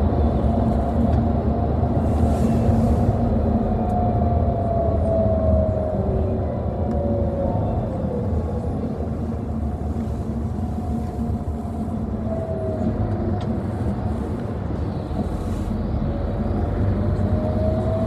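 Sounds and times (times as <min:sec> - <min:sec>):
bus engine and road rumble: 0:00.0 - 0:18.0
faint gliding whine: 0:00.0 - 0:18.0.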